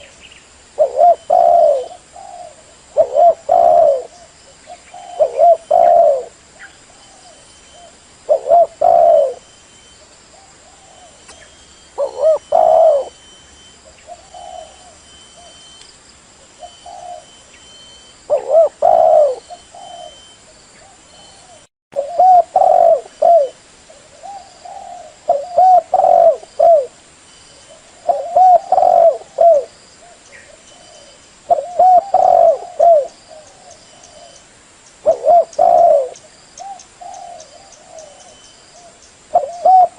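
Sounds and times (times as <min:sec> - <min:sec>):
dove cooing: 0:00.8 - 0:15.6, 0:16.6 - 0:27.0, 0:27.6 - 0:34.4, 0:35.0 - 0:39.9.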